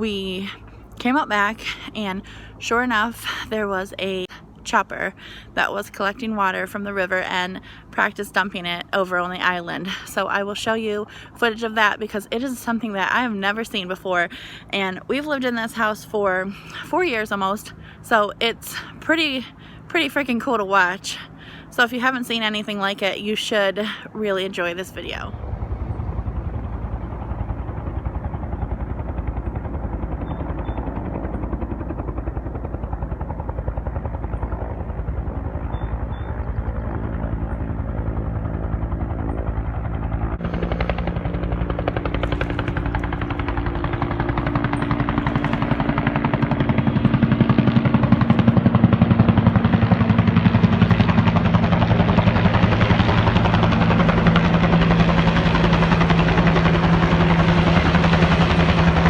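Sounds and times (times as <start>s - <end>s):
helicopter engine hum: 0.0s - 59.0s
helicopter rotor chopping: 0.0s - 59.0s.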